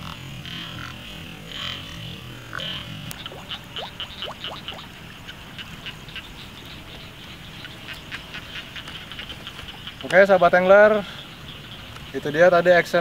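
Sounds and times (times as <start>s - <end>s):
frogs chirping: 0.0s - 13.0s.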